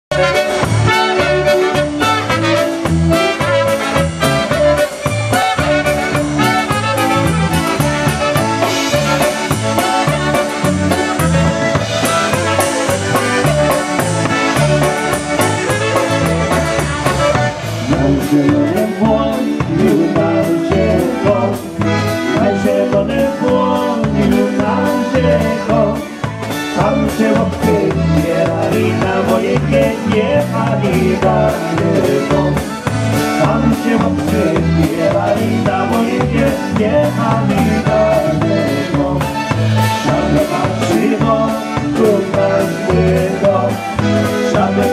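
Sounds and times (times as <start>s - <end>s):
bass: 0.0s - 44.9s
accordion melody: 0.1s - 44.9s
clarinet: 0.1s - 44.9s
drum kit: 0.1s - 44.9s
trumpet: 0.1s - 44.9s.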